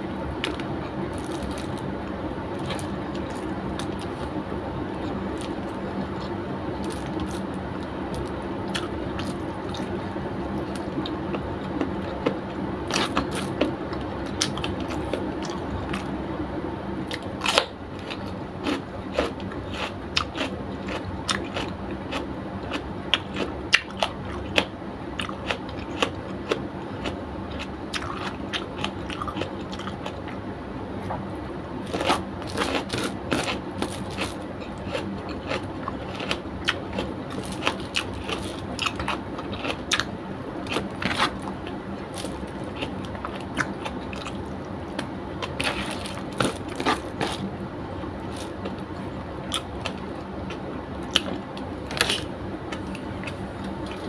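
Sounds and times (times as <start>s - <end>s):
person chewing crunchy food: 0.4s - 16.2s, 17.1s - 30.4s, 31.8s - 54.0s.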